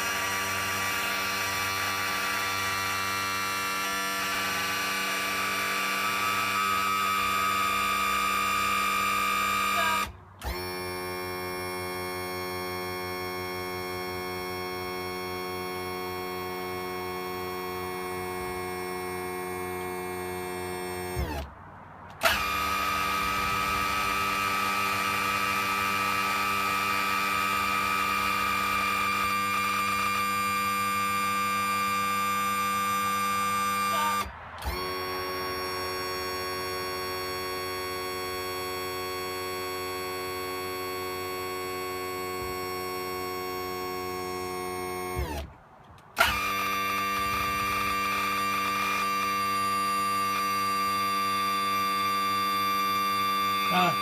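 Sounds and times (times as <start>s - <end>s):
electric pump motor whining: 0.0s - 21.5s, 22.1s - 54.0s.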